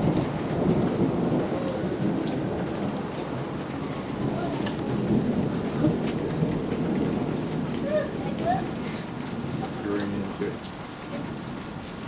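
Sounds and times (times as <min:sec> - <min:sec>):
heavy rain: 0:00.0 - 0:12.0
low thunder rumble: 0:00.0 - 0:12.0.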